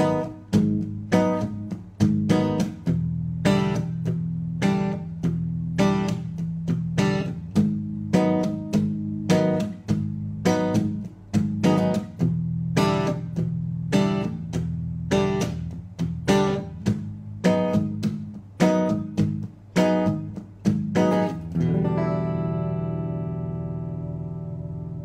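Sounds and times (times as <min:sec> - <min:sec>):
electric guitar chords strummed: 0:00.0 - 0:25.0.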